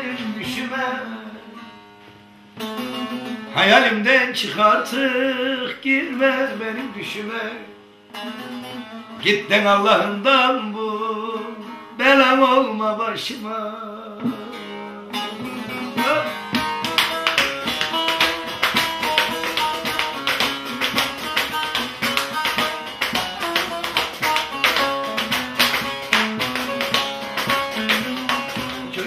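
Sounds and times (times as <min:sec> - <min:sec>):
long-necked lute picked melody: 0:00.0 - 0:29.0.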